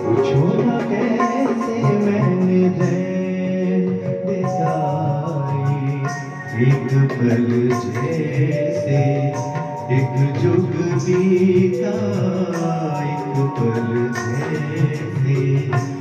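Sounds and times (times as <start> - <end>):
keyboard: 0.0 - 16.0
man singing into a microphone: 0.0 - 16.0
tabla drums: 0.0 - 16.0.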